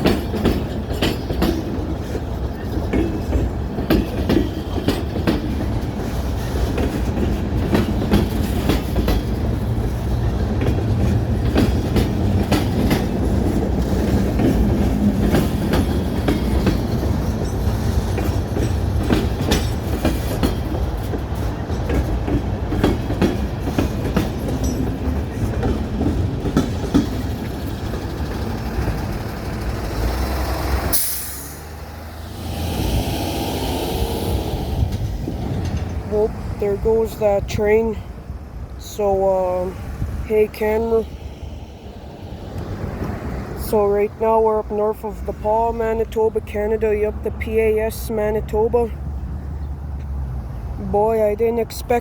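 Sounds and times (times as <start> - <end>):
wheels clicking over rail joints: 0.0 - 33.0, 34.3 - 52.0
train rumbling past: 0.0 - 52.0.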